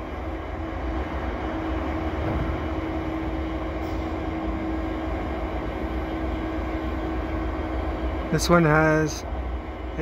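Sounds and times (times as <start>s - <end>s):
diesel locomotive idling: 0.0s - 10.0s.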